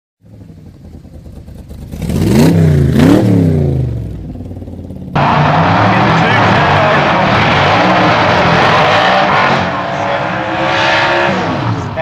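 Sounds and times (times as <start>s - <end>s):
drag car engine revving: 0.8s - 4.2s, 5.1s - 12.0s.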